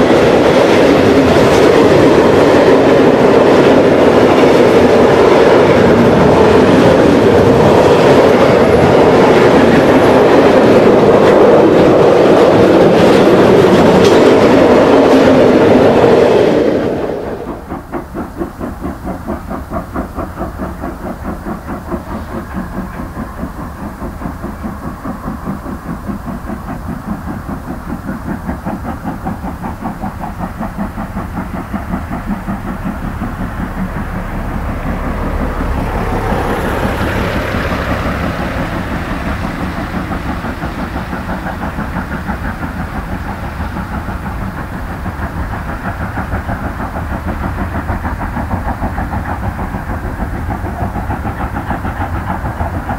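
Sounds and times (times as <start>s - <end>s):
steam hiss: 0.0s - 52.9s
steam locomotive chugging: 0.0s - 52.9s.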